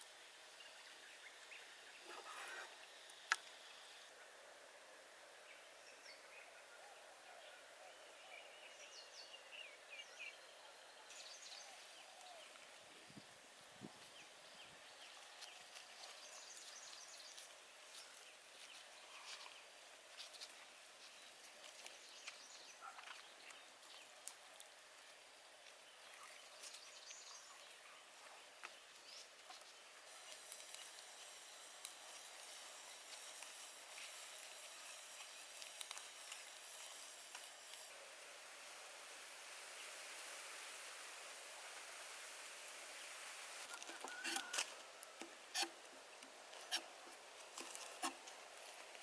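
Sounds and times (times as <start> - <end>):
steady high hiss: 0.0 - 49.0.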